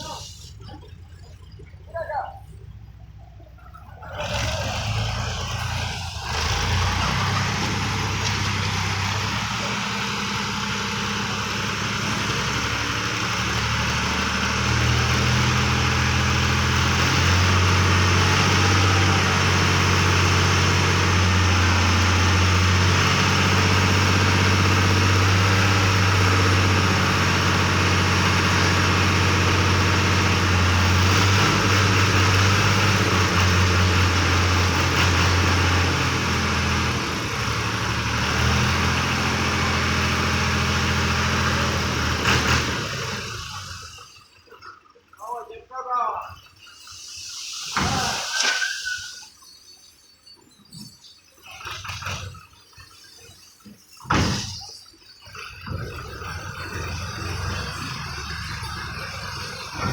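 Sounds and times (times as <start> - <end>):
tractor diesel engine running: 0.0 - 44.2, 55.6 - 59.9.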